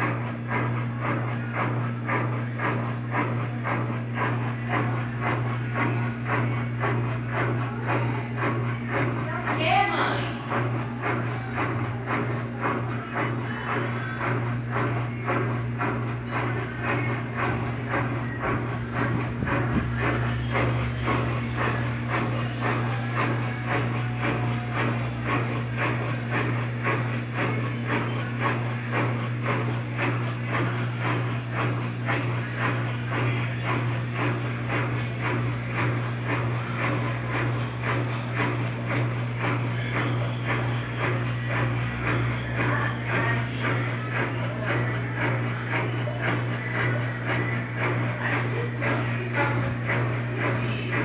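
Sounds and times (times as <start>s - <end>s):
washing machine spinning down: 0.0s - 51.0s.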